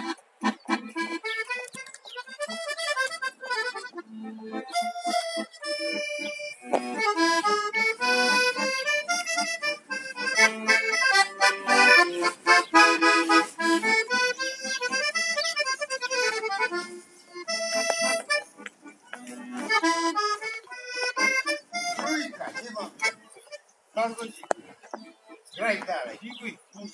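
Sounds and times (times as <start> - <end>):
accordion melody: 0.0 - 26.9.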